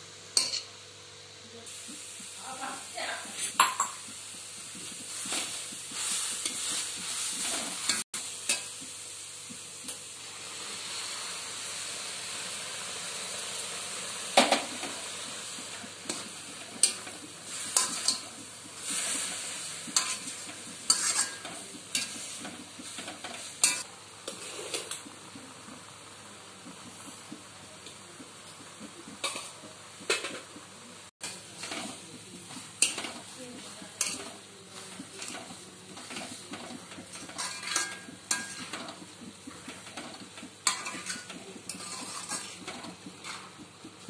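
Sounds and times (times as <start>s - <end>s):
carrots sizzling in a pan: 0.0s - 44.0s
spoon stirring and scraping pan: 0.4s - 0.7s, 1.7s - 9.6s, 13.4s - 25.9s, 26.6s - 44.0s.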